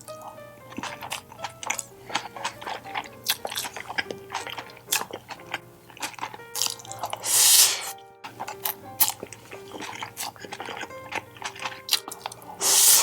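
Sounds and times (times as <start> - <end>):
chewing and crunching food: 0.0 - 13.0
quiet background music: 0.0 - 13.0.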